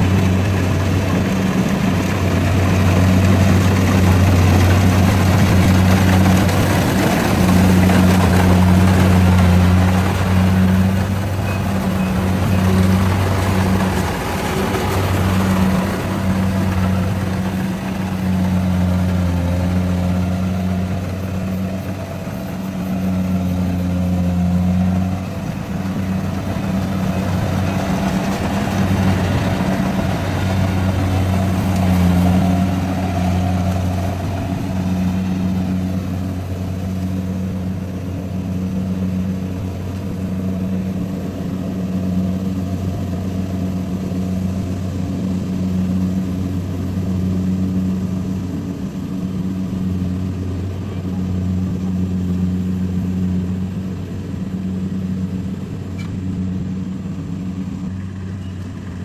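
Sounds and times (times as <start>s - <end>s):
combine harvester engine humming: 0.0s - 59.0s.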